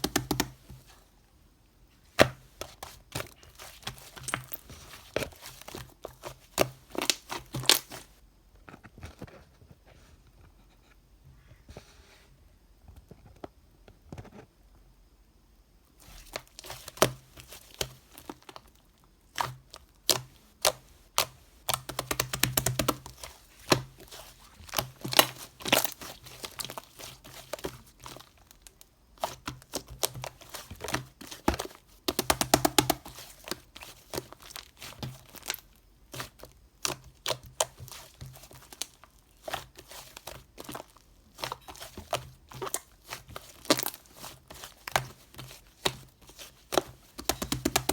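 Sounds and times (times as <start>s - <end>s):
crinkling and crackling handling: 1.9s - 10.6s, 16.0s - 47.9s.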